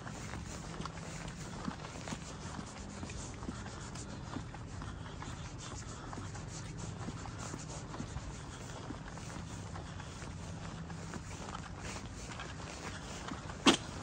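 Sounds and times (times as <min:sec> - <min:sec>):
footsteps on pavement: 0:00.0 - 0:14.0
rubbing against microphone: 0:00.0 - 0:14.0
steady low hum: 0:00.0 - 0:14.0.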